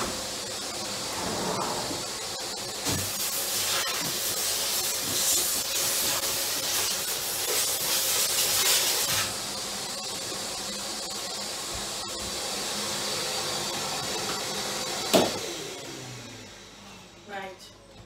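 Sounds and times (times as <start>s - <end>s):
vacuum cleaner sucking air: 0.0s - 17.2s.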